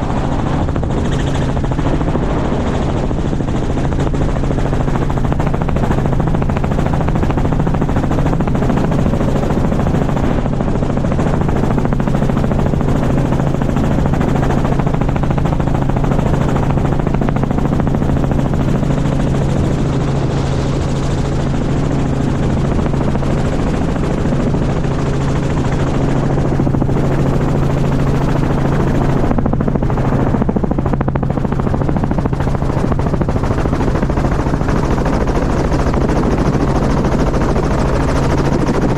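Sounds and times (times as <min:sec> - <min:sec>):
helicopter rotor drone: 0:00.0 - 0:38.9.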